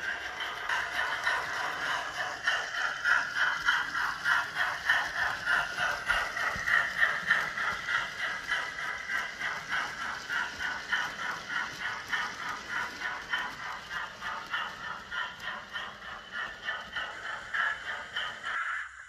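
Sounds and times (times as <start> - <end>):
model steam locomotive chuffing: 0.0 - 19.0
small train wheels rattling on track: 0.0 - 19.0.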